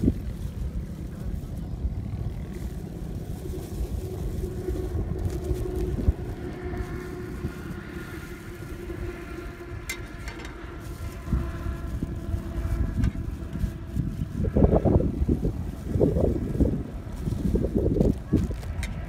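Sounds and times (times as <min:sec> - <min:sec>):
engine drone: 0:00.0 - 0:19.0
wind on microphone: 0:00.0 - 0:19.0.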